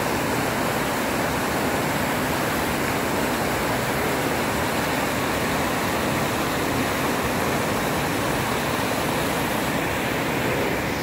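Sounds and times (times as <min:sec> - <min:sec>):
whitewater rushing over boulders: 0:00.0 - 0:11.0.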